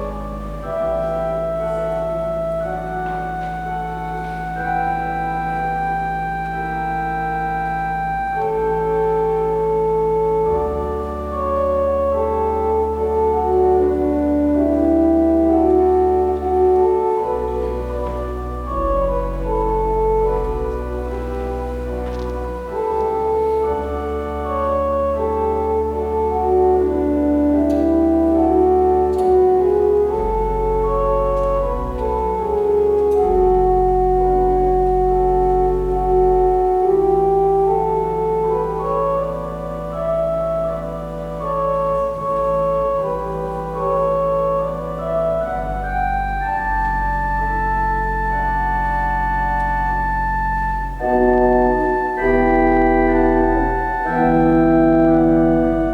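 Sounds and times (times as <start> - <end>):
organ playing slow chords: 0.0 - 55.9.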